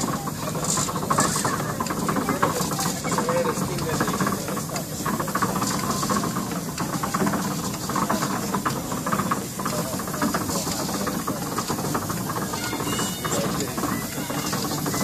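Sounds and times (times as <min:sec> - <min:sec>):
steam engine hissing and clattering: 0:00.0 - 0:15.0.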